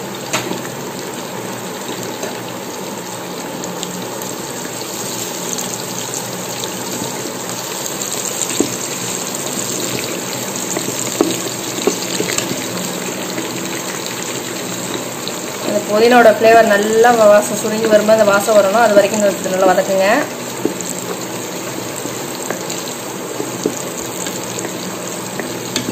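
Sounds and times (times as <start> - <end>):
spices sizzling in hot oil: 0.0 - 25.9.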